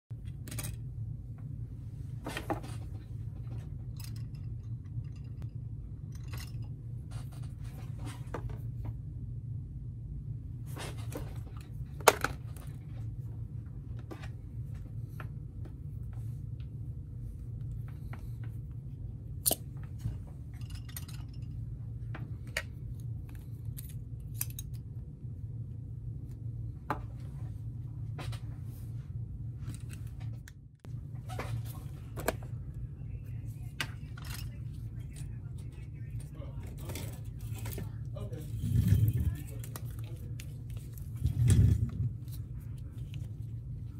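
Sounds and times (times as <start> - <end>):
steady low hum: 0.1 - 43.9.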